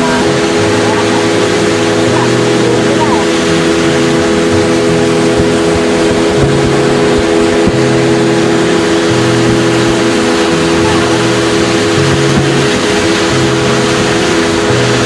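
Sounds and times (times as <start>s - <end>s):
dense rushing noise: 0.0s - 15.0s
motorboat engine running: 0.0s - 15.0s.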